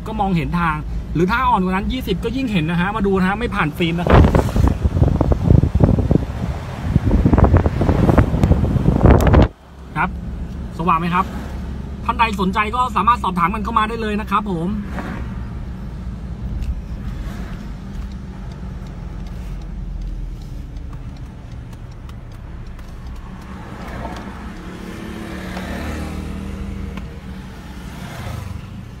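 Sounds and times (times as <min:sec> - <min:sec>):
engine and tyre rumble: 0:00.0 - 0:29.0.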